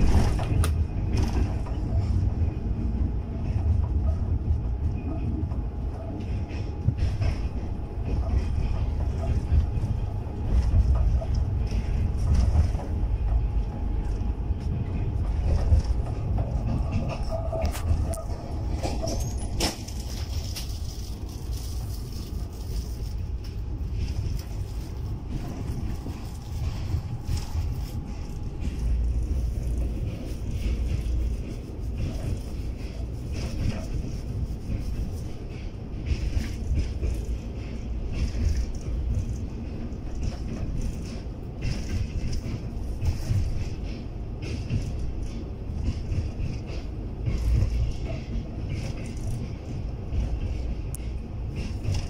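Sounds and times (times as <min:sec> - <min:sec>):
train rumbling: 0:00.0 - 0:52.0
wind buffeting microphone: 0:00.0 - 0:52.0.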